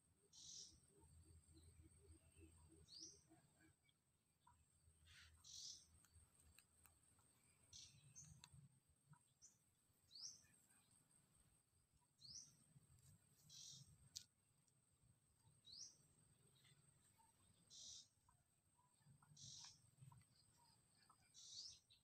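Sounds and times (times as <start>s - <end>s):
faint bird chirps: 0.0s - 14.2s, 15.3s - 22.0s
faint high-pitched whine: 0.0s - 22.0s.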